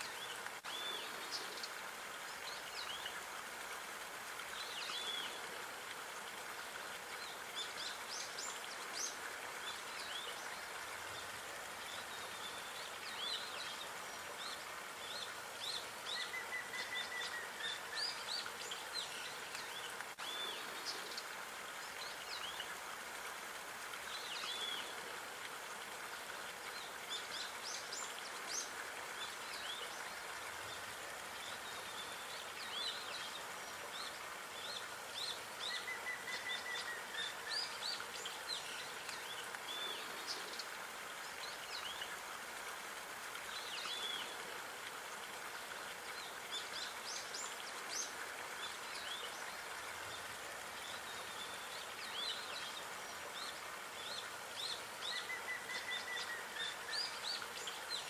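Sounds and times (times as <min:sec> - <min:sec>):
outdoor background hiss: 0:00.0 - 0:58.0
small songbirds chirping: 0:00.0 - 0:58.0.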